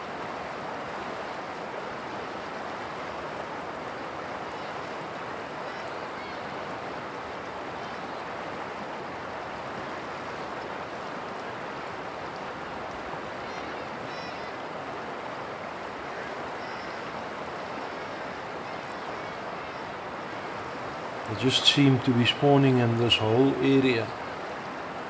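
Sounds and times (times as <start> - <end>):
flowing river water: 0.0 - 25.0.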